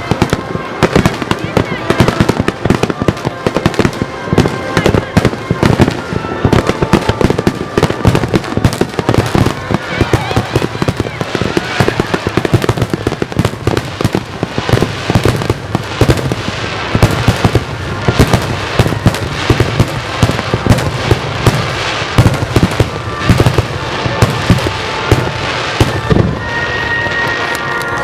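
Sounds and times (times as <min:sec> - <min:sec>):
fireworks bursting with bangs: 0:00.0 - 0:28.0.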